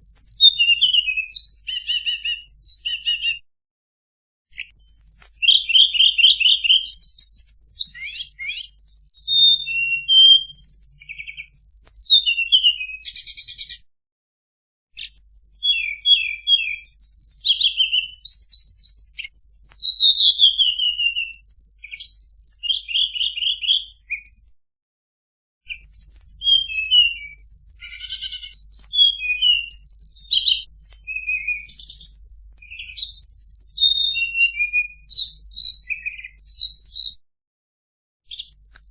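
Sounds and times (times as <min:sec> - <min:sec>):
songbird singing trills and whistles: 0:00.0 - 0:03.4, 0:04.5 - 0:13.9, 0:15.0 - 0:24.6, 0:25.6 - 0:37.2, 0:38.3 - 0:38.9.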